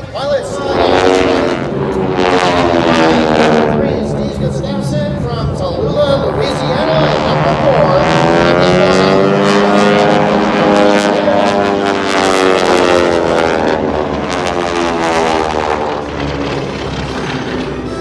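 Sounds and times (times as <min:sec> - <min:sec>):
propeller planes droning overhead: 0:00.0 - 0:18.0.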